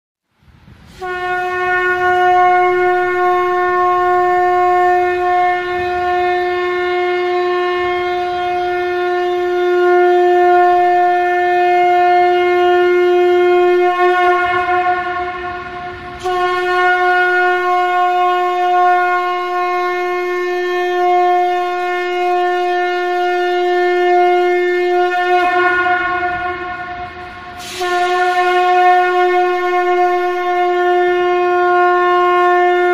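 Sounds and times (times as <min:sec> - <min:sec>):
conch shell trumpet blowing: 0:00.8 - 0:32.9.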